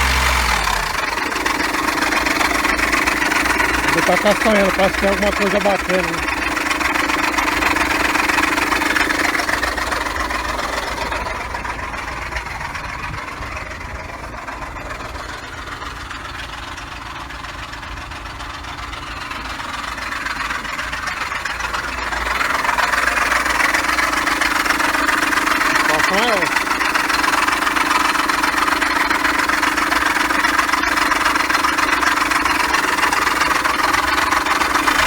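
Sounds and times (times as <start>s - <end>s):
car engine running with rattle: 0.0s - 35.0s.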